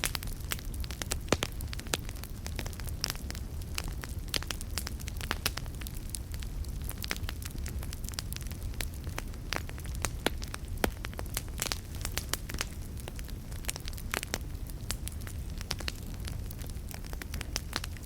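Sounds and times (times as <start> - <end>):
burning wood popping: 0.0 - 18.0
low rumble of flames: 0.0 - 18.0.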